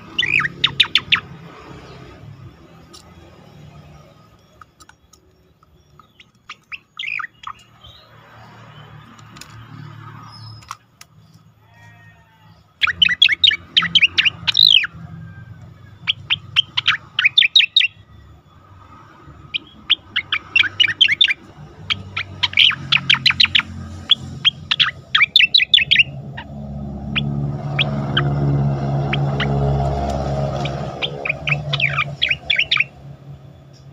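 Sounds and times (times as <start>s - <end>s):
bird whistling song: 0.0s - 9.2s, 12.8s - 33.9s.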